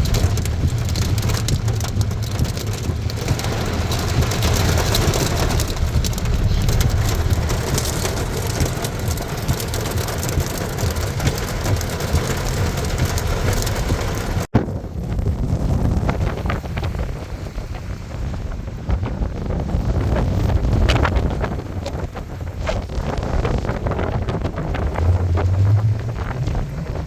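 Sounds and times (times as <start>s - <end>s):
dense crackling patter: 0.0s - 27.0s
storm wind gusting on microphone: 0.0s - 27.0s.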